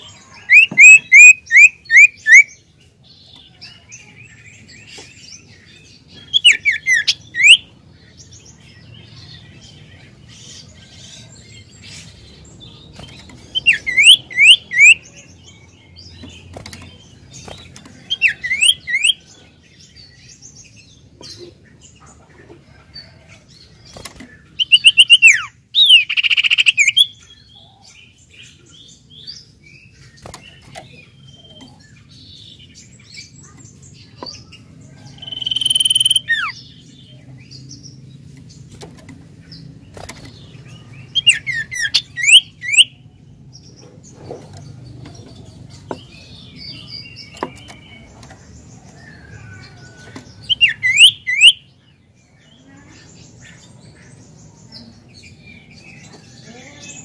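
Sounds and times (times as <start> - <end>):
bird chirping song: 0.0 - 57.0.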